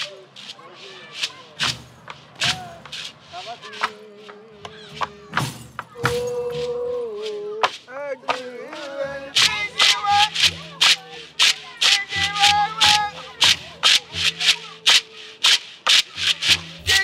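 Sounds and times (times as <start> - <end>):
gourd rattle shaking: 0.0 - 17.0
person chanting: 2.4 - 17.0.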